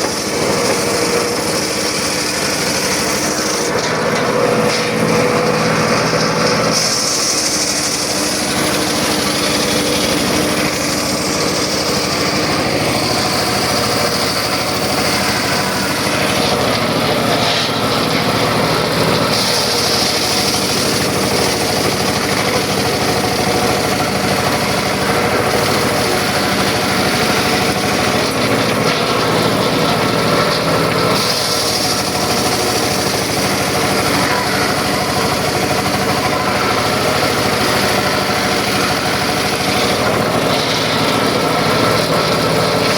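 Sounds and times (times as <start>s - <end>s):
circular saw running: 0.0s - 42.9s.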